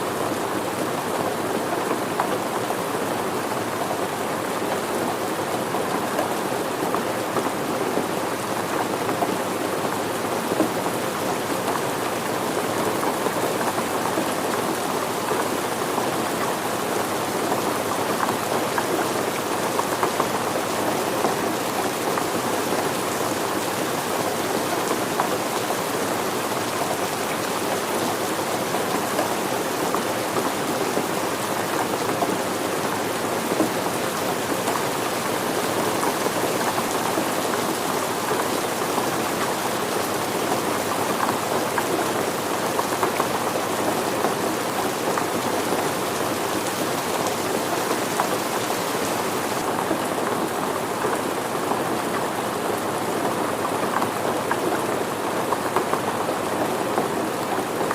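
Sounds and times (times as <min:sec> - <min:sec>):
steady rain pattering: 0:00.0 - 0:57.9.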